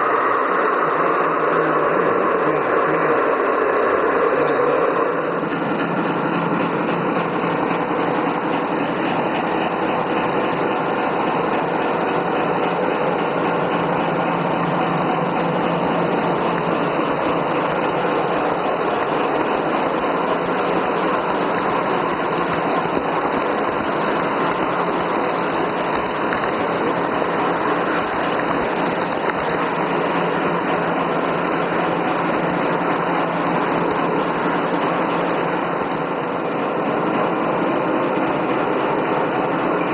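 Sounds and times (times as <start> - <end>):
model locomotive running: 0.0 - 39.9
wagons rolling on track: 4.4 - 39.9.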